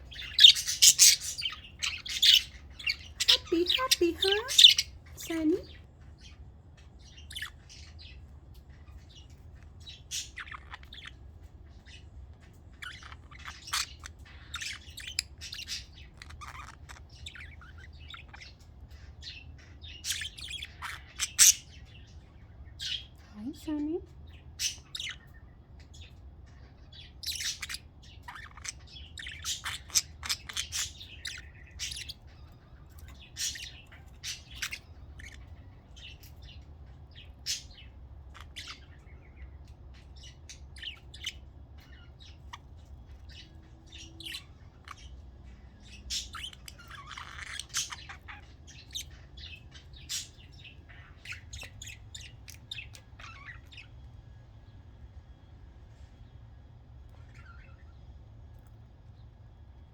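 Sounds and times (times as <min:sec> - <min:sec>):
budgerigar chirping and squawking: 0:00.0 - 0:23.3, 0:24.3 - 0:54.1, 0:57.1 - 0:58.1.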